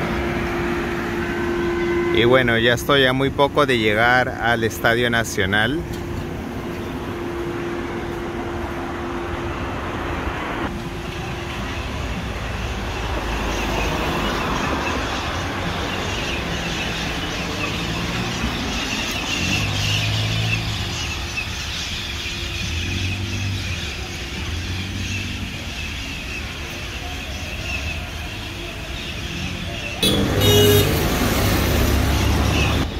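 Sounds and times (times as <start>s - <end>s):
car and bus engines passing: 0.0s - 32.9s.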